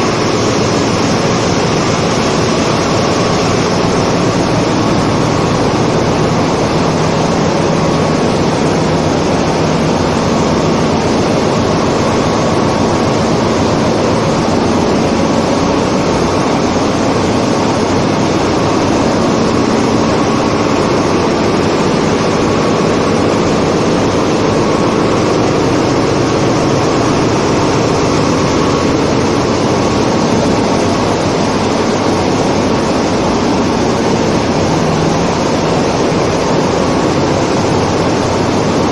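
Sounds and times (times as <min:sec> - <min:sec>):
engine room machinery drone: 0:00.0 - 0:38.9.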